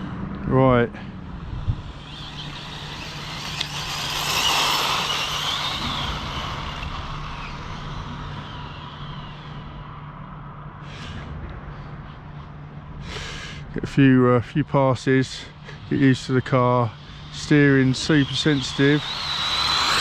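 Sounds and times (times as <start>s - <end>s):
vehicle passing by: 0.0s - 14.4s, 15.0s - 20.0s
high whine: 0.0s - 20.0s
low hum: 0.0s - 20.0s.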